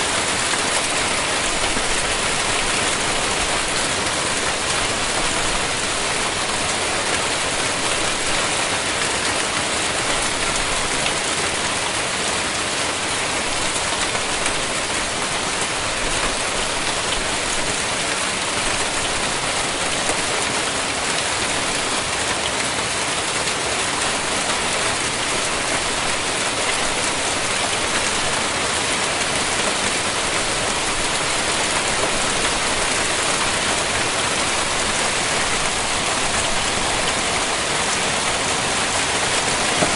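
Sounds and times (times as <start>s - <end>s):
hailstones pelting down: 0.0s - 39.9s.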